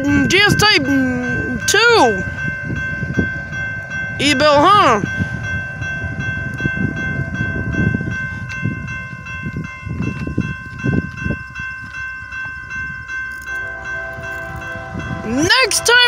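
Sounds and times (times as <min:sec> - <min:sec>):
crossing bell ringing steady tone: 0:00.0 - 0:16.0.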